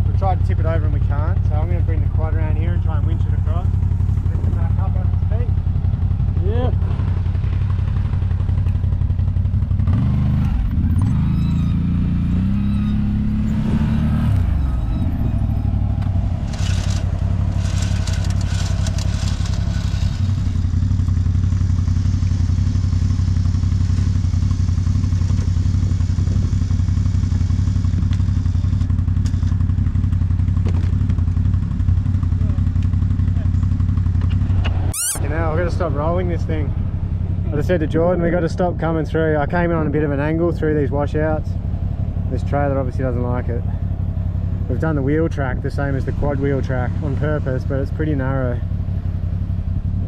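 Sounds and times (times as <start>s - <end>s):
quad bike engine revving: 0.0s - 50.0s.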